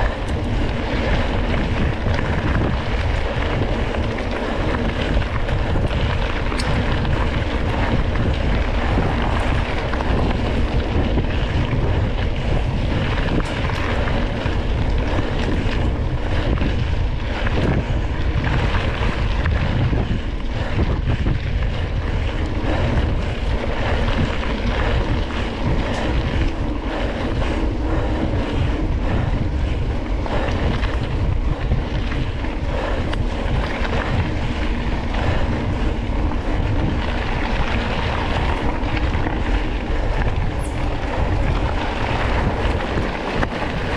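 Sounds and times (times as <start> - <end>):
mountain bike rattling on dirt: 0.0 - 43.9
wind buffeting microphone: 0.0 - 43.9.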